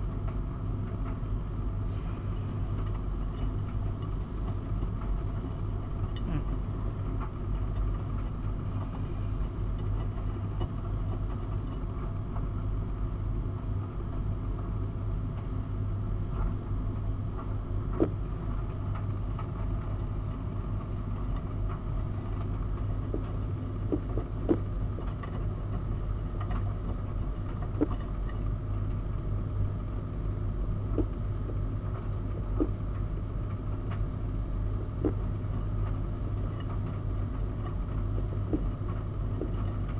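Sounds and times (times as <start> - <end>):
washing machine humming and swishing: 0.0 - 39.9.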